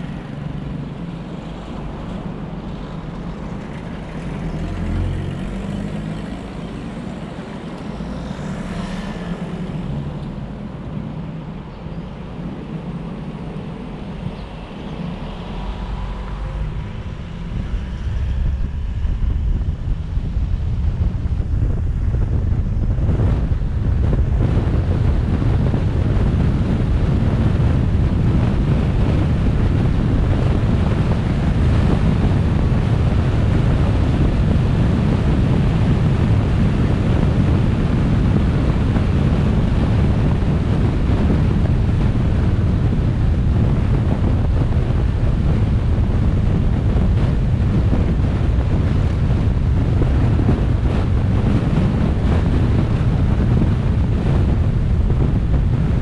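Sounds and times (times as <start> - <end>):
car wind and road noise: 0.0 - 56.0.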